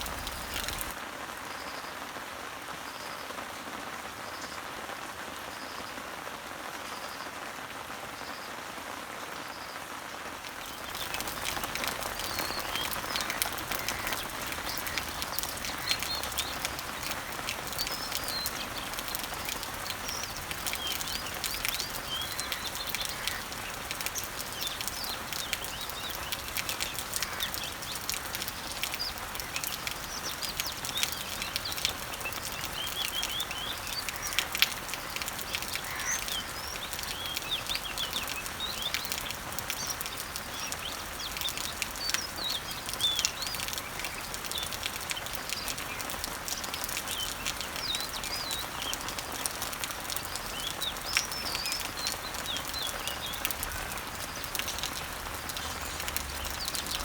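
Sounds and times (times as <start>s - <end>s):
birds chirping: 0.0s - 1.0s, 10.5s - 57.0s
water drips: 0.0s - 1.0s, 10.4s - 57.0s
rain falling on leaves: 0.0s - 57.0s.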